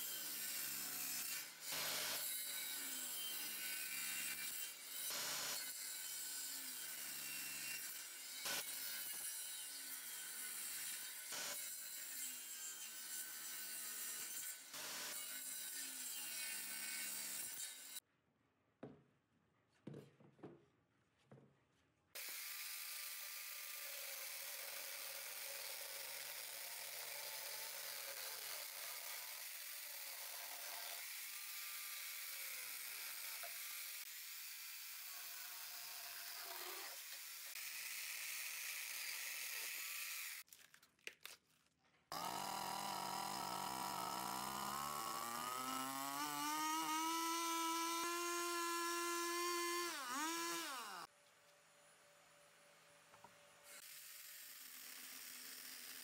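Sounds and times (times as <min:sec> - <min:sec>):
electric chainsaw cutting wood: 0:00.0 - 0:12.4, 0:13.6 - 0:18.0, 0:22.2 - 0:40.4, 0:42.1 - 0:51.1, 0:53.7 - 0:56.0.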